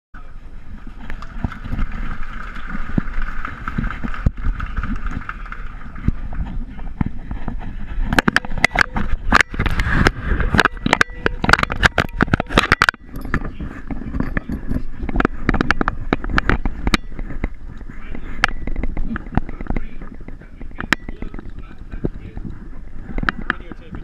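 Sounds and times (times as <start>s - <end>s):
crowd chatter: 0.2s - 24.0s
camera knocking and scraping: 0.8s - 24.0s.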